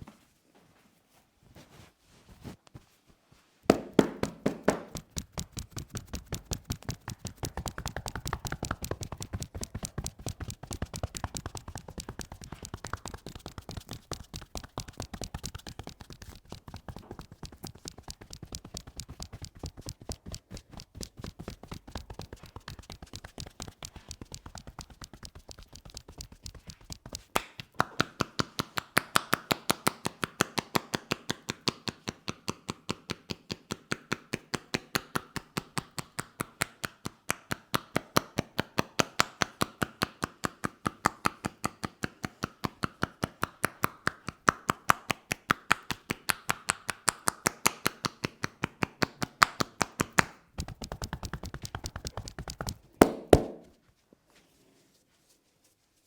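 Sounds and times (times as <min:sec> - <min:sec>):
hands tapping on a head: 0:03.7 - 0:53.8.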